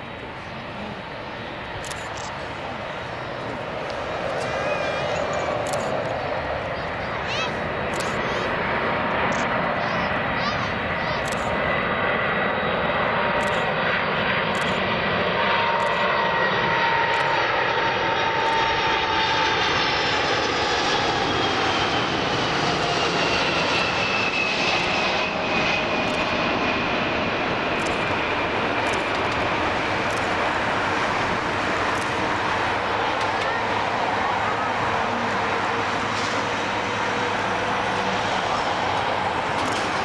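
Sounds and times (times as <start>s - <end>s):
airliner jet engines whining: 0.0s - 40.0s.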